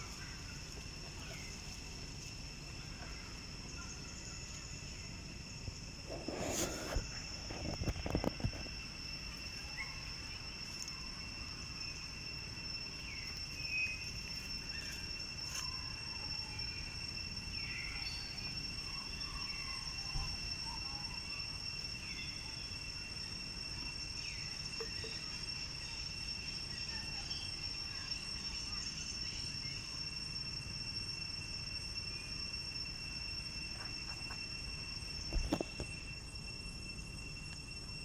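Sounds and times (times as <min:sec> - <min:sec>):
high insect drone: 0:00.0 - 0:38.0.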